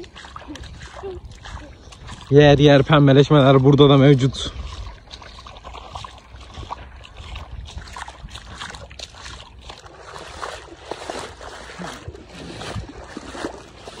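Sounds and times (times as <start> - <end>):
footsteps splashing through brine: 0.0 - 14.0
wind rumbling on microphone: 0.0 - 14.0.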